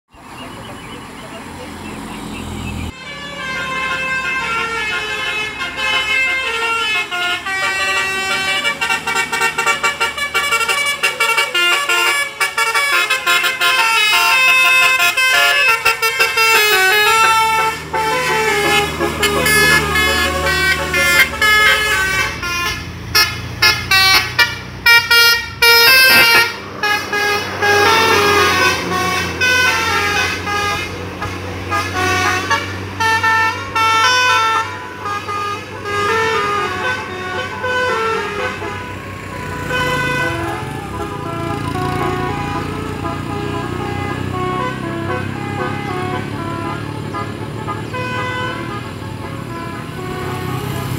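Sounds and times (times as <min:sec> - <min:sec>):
multi-tone bus horn melody: 0:00.5 - 0:50.9.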